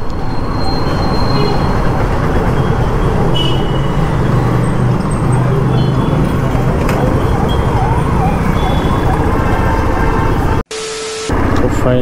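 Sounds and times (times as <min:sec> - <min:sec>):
traffic road noise: 0:00.0 - 0:10.7, 0:11.3 - 0:12.0.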